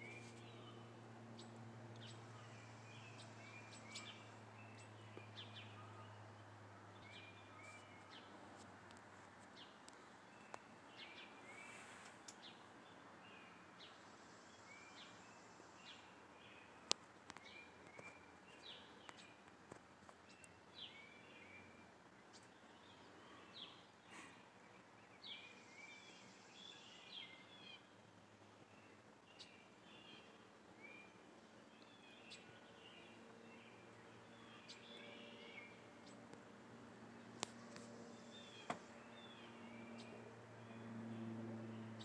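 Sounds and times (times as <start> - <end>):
distant airplane drone: 0.0 - 42.0
small birds chirping: 0.0 - 42.0.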